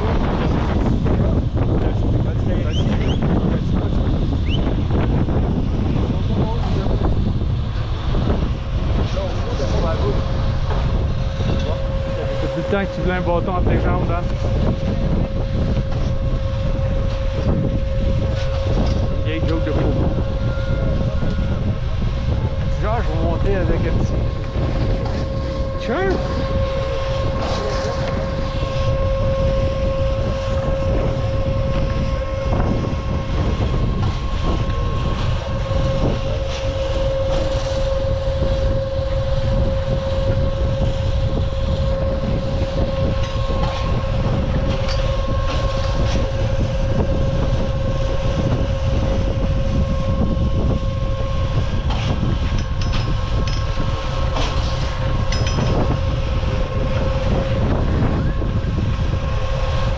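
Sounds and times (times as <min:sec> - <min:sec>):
ski lift machinery whine: 0:00.0 - 0:59.9.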